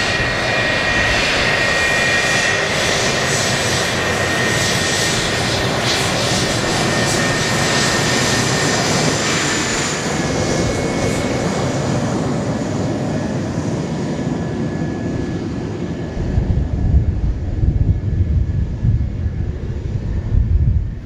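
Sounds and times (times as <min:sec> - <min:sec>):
high jet engine whine: 0:00.0 - 0:21.0
jet engines rushing: 0:00.0 - 0:21.0.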